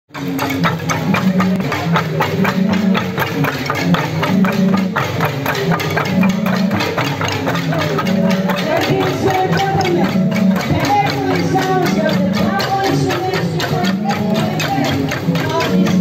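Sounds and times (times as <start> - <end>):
low droning bamboo tones: 0.1 - 16.0.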